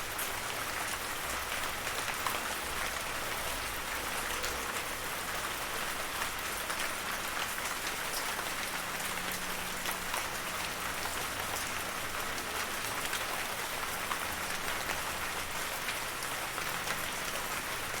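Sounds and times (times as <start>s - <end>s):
rain pattering on a surface: 0.0s - 18.0s.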